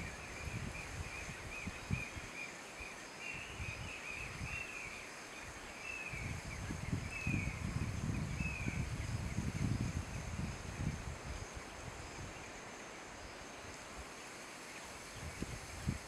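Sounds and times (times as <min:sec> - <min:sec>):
wind rumbling on microphone: 0:00.0 - 0:14.2, 0:14.8 - 0:16.0.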